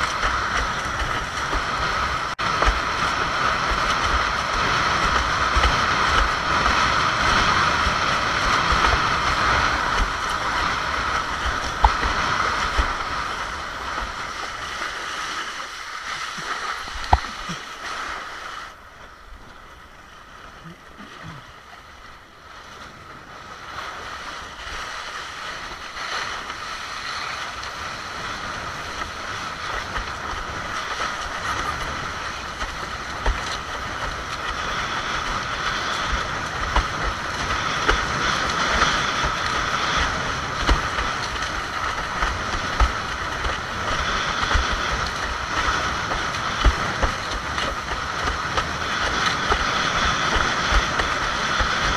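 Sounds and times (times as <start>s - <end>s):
water hissing and slapping: 0.0s - 51.9s
wind rushing over microphone: 0.0s - 51.9s.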